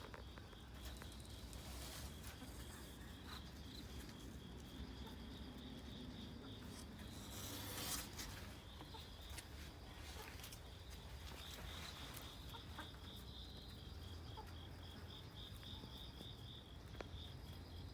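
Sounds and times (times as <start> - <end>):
high insect trill: 0.0 - 17.9.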